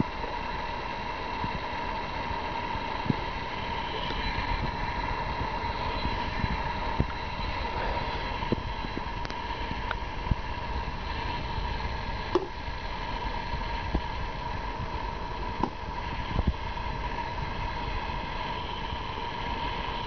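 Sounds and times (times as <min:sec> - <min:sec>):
kettle heating water: 0:00.0 - 0:20.0.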